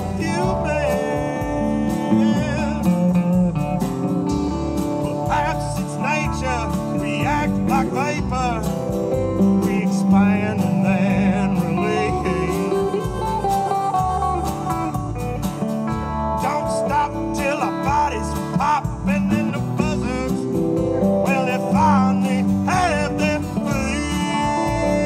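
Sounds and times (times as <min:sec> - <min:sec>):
lead guitar bending notes: 0:00.0 - 0:25.0
live country band playing: 0:00.0 - 0:25.0.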